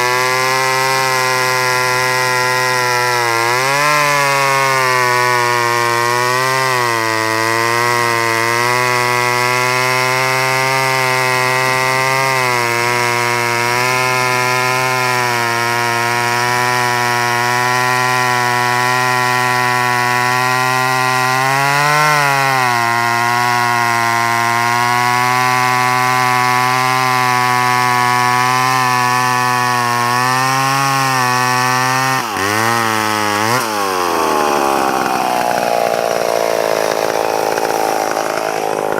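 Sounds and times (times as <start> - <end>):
chainsaw running: 0.0 - 38.9.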